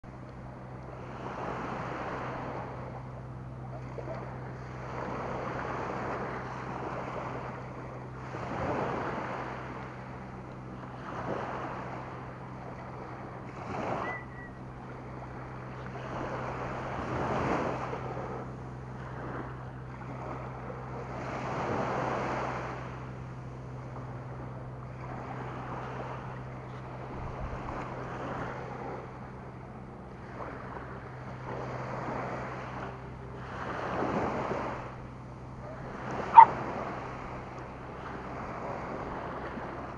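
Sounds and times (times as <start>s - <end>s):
steady low hum: 0.0s - 39.9s
small waves on sandy shore: 0.1s - 39.9s.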